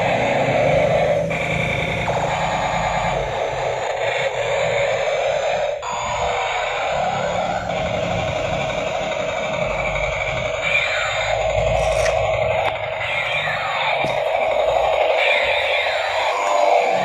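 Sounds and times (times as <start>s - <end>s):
toy helicopter electronic sound effects: 0.0s - 17.0s.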